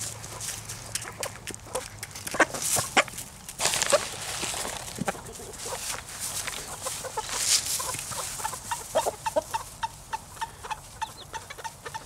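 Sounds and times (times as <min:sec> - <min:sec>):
hens clucking: 0:00.2 - 0:12.0.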